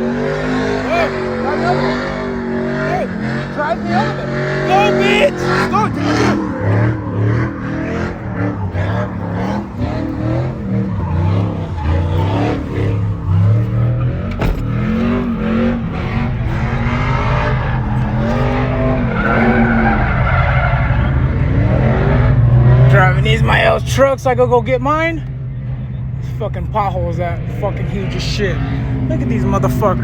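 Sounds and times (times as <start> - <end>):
pickup truck engine revving: 0.0 - 30.0
tires skidding on pavement: 0.0 - 30.0.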